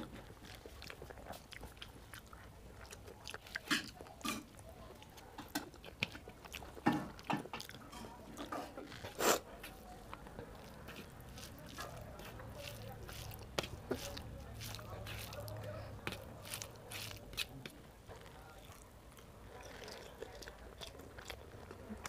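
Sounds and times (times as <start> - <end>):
fingers squishing rice: 0.0 - 21.6
chewing and mouth smacks: 0.0 - 22.0.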